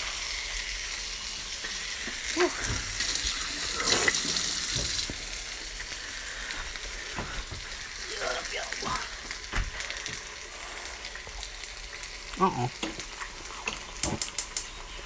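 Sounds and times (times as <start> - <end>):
steak sizzling in oil: 0.0 - 15.0.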